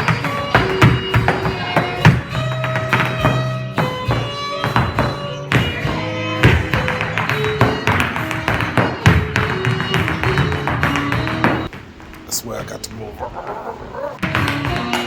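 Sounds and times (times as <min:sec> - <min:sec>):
hard-shoe taps and stomps: 0:00.0 - 0:12.3, 0:14.2 - 0:15.0
pipe-like dance music: 0:00.0 - 0:12.3.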